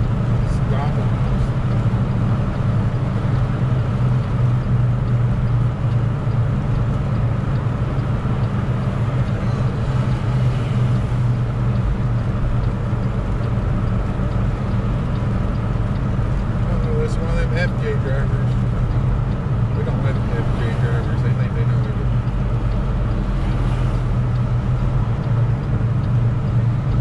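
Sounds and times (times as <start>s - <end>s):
diesel engine drone: 0.0s - 27.0s
road noise: 0.0s - 27.0s.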